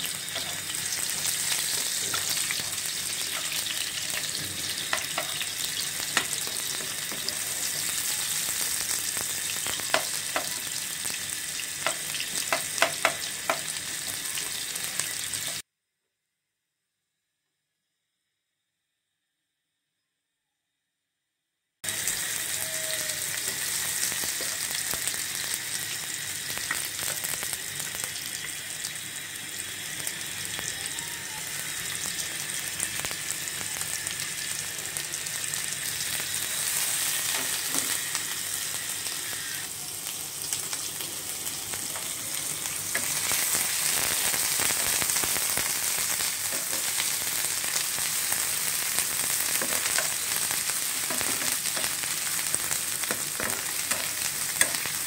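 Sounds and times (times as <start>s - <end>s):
onions sizzling in hot oil: 0.0s - 15.6s, 21.8s - 55.0s.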